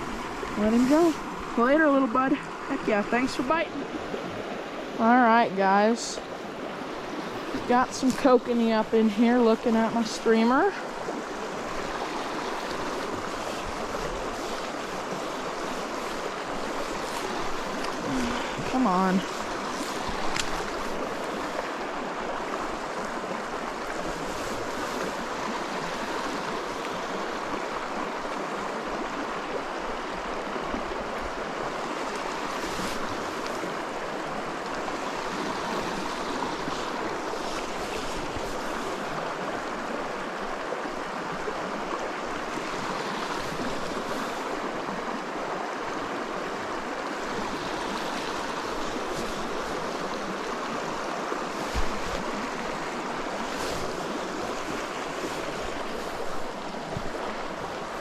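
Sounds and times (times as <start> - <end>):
creek rushing over rocks: 0.0 - 58.0.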